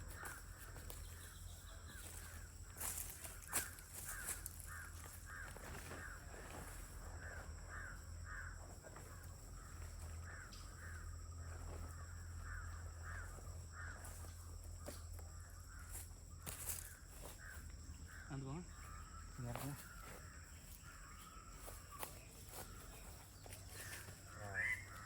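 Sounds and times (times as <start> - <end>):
bird calling: 0.0 - 25.0.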